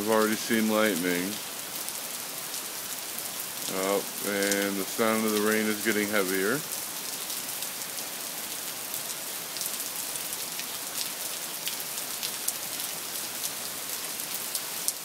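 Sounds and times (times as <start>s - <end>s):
heavy rain falling: 0.0s - 15.0s
raindrops ticking close by: 0.0s - 15.0s.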